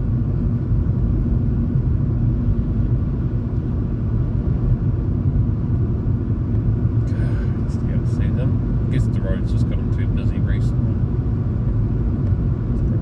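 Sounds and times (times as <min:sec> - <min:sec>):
car engine and road noise inside: 0:00.0 - 0:13.0.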